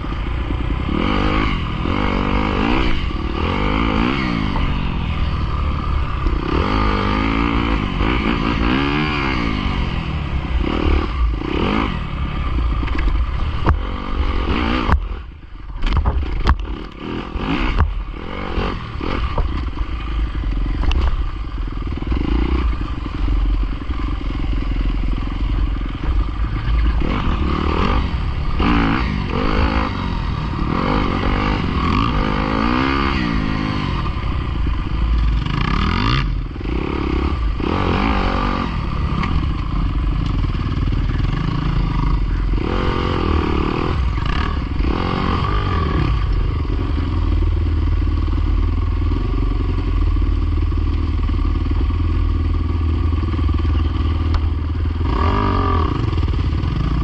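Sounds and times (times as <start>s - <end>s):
dirt bike engine revving: 0.0s - 57.0s
heavy low rumble: 0.0s - 57.0s.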